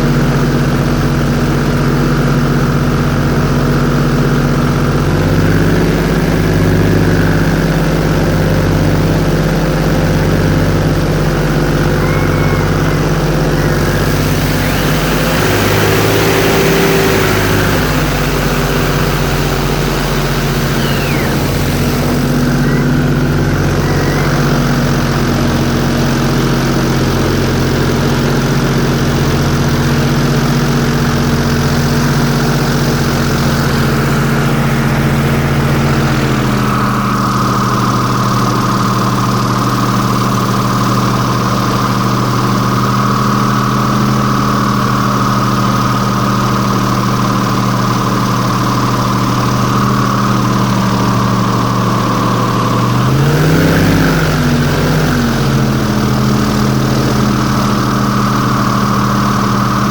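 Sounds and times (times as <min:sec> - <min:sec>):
airboat engine and propeller: 0:00.0 - 0:59.9.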